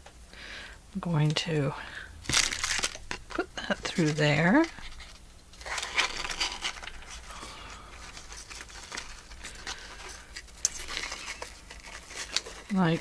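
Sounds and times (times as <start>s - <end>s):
paper rustling: 2.2s - 13.0s.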